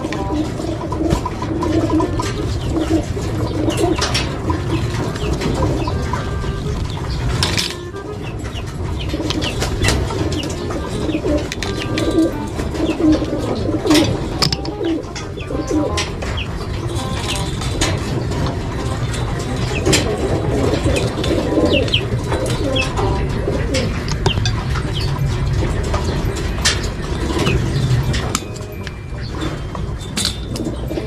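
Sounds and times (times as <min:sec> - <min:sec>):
pigeons cooing: 0:00.0 - 0:31.0
wire mesh clicking: 0:00.0 - 0:31.0.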